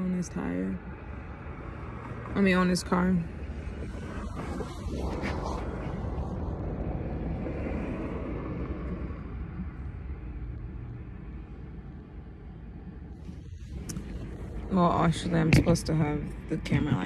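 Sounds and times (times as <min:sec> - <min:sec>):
vehicle rumble inside car: 0:00.0 - 0:17.0.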